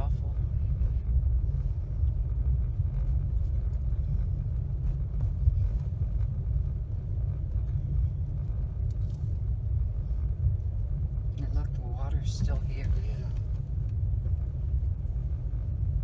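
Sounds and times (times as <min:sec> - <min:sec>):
car road rumble: 0:00.0 - 0:16.0.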